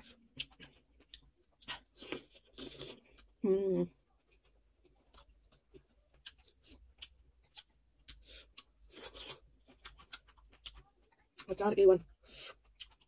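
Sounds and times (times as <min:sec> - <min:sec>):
wet chewing and mouth clicks: 0:00.0 - 0:03.4, 0:04.0 - 0:13.0.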